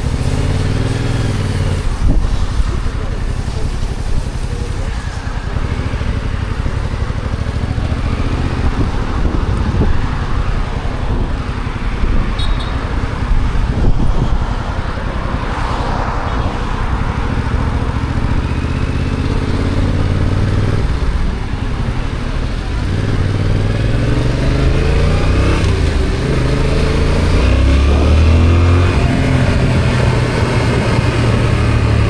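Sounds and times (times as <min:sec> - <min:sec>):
motorcycle engine running: 0:00.0 - 0:32.0
road and traffic noise: 0:00.0 - 0:32.0.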